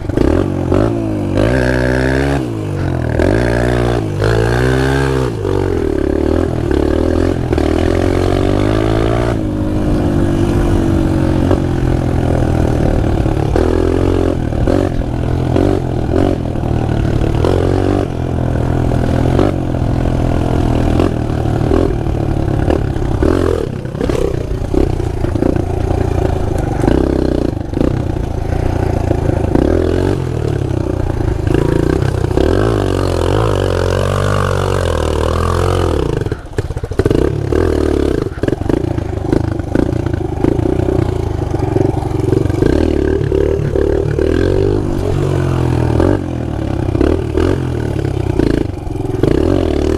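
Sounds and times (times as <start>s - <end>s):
motorbike engine revving: 0.0s - 49.9s.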